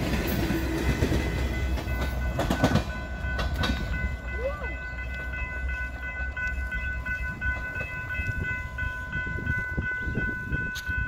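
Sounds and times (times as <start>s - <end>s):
railroad crossing bell ringing: 0.0s - 11.0s
train rumble: 0.0s - 11.0s.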